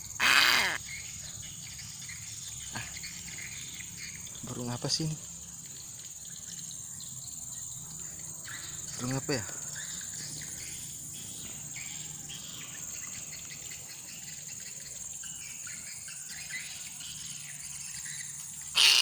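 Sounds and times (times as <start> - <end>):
faint bird chirps: 0.0 - 19.0
insect chorus: 0.0 - 19.0.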